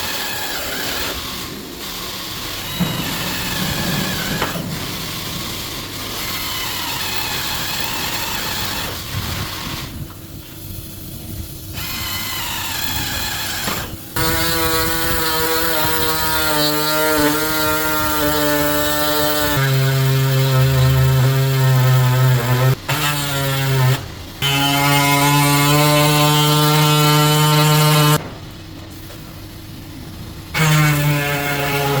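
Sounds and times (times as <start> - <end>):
power tools on sheet metal: 0.0 - 10.2, 11.7 - 28.2, 30.4 - 32.0.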